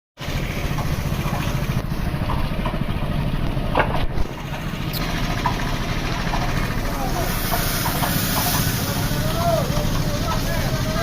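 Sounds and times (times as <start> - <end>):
vehicle engine running: 0.2 - 11.0.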